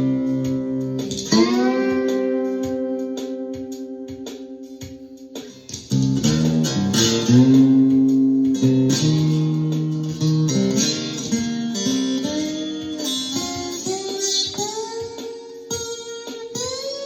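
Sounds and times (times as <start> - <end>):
slide guitar chords: 0.0 - 17.0.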